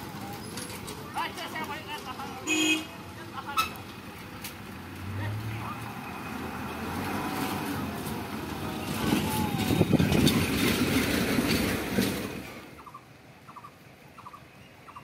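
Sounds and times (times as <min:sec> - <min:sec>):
bus driving past: 0:00.0 - 0:15.0.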